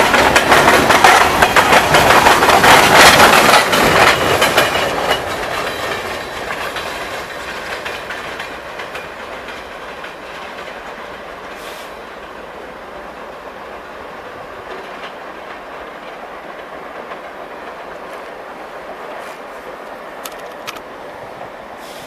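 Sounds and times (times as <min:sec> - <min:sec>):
freight train rolling past: 0:00.0 - 0:22.0
wheels clicking over rail joints: 0:00.0 - 0:22.0.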